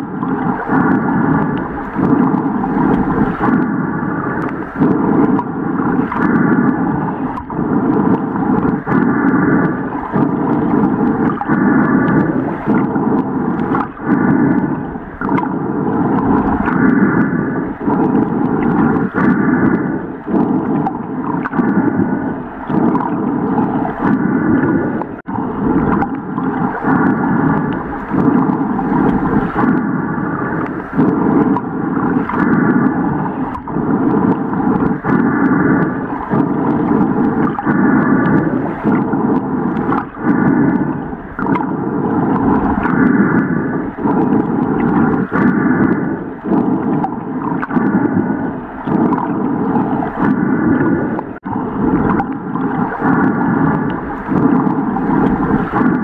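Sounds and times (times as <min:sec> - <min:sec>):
underwater rumble and gurgling: 0:00.0 - 0:56.0.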